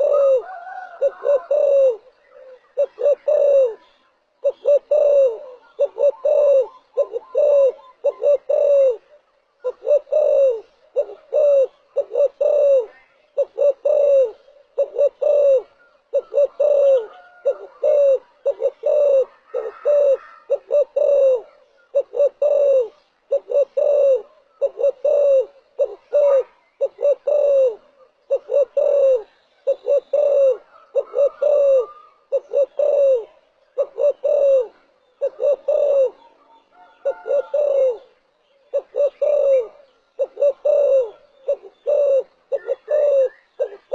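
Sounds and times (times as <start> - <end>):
dove cooing: 0.0 - 43.9.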